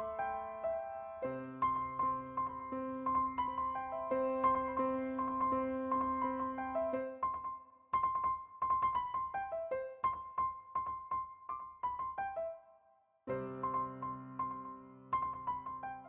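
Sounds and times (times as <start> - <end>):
electric piano music: 0.0 - 12.7, 13.3 - 16.0.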